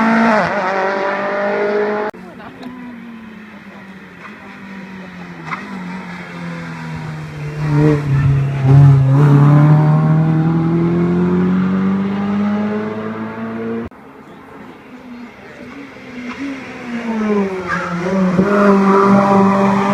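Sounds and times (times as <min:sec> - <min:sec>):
race car engine at full throttle: 0:00.0 - 0:19.9.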